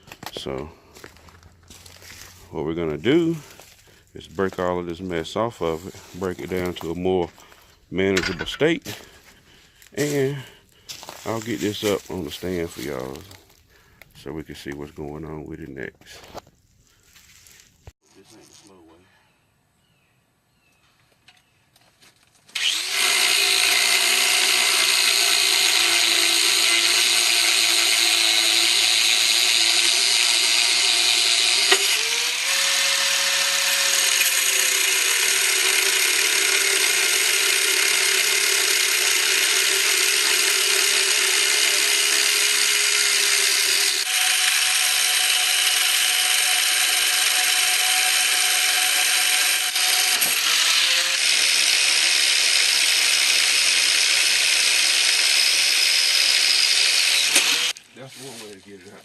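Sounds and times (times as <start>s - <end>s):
angle grinder cutting: 0.0s - 13.6s, 22.5s - 57.8s.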